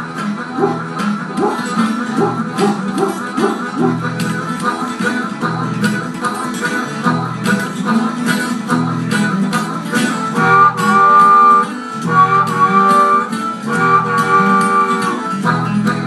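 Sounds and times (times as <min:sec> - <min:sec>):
acoustic guitar strumming: 0:00.0 - 0:16.0
harmonica: 0:00.0 - 0:16.0.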